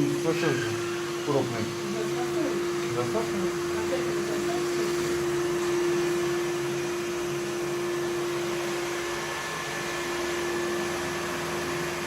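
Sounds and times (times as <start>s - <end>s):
robot vacuum running: 0.0s - 12.0s.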